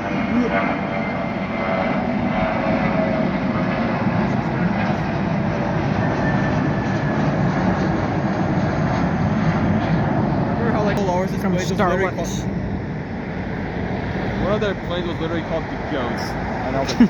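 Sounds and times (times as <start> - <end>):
jet airliner taking off: 0.0 - 17.0.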